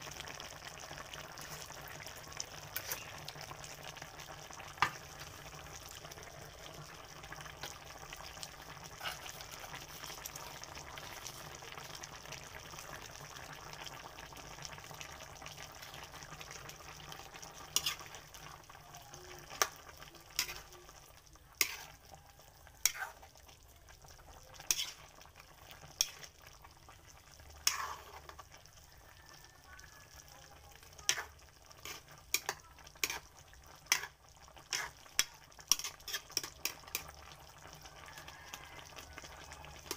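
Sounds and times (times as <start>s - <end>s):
stew simmering and bubbling: 0.0s - 39.9s.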